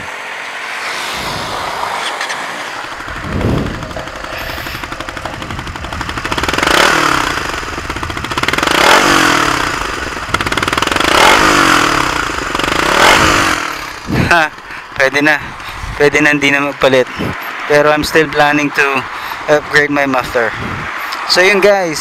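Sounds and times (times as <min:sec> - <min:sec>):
motorcycle engine idling and revving: 0:00.0 - 0:21.1.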